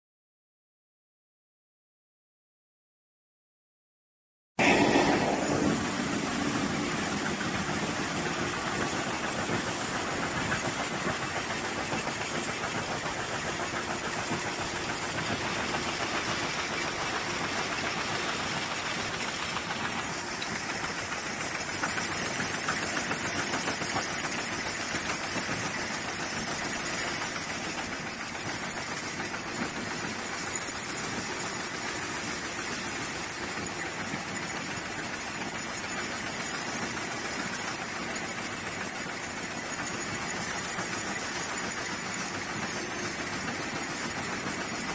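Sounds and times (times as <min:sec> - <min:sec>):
punching machine clattering: 0:06.4 - 0:44.9.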